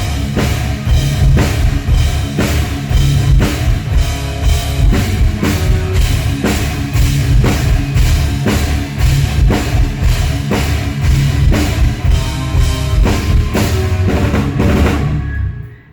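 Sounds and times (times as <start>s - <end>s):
bass drum and cymbal hits: 0.0s - 15.3s
rock band playing loud: 0.0s - 15.8s.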